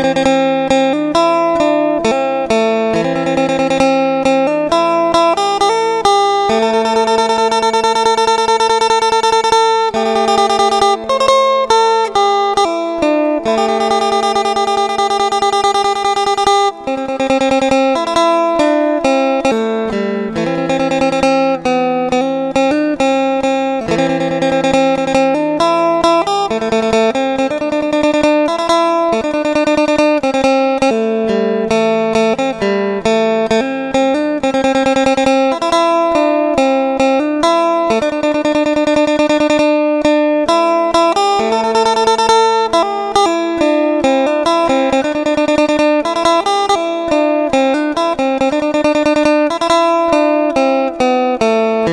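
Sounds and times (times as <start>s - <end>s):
plucked lute melody over drone: 0.0s - 51.9s.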